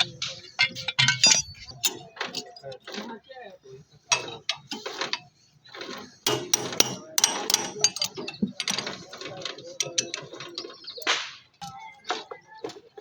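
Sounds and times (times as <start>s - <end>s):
hand tools clanking on metal: 0.0s - 3.2s, 4.1s - 12.8s.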